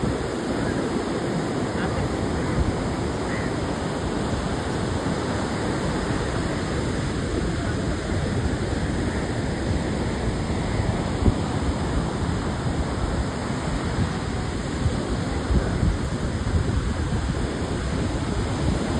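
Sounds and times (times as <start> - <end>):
surf breaking on beach: 0.0 - 18.9.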